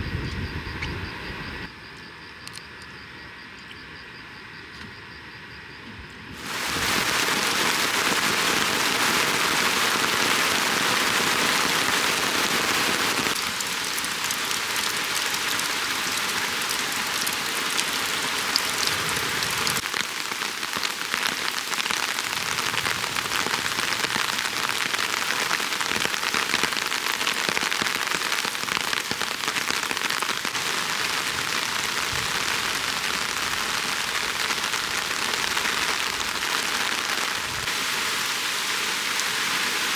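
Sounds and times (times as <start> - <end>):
heavy rain pouring: 6.4 - 39.9.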